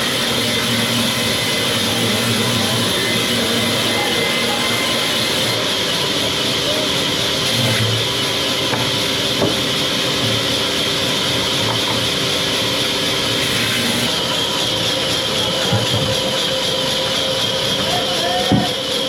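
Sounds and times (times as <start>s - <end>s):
sawmill machinery humming: 0.0s - 19.0s.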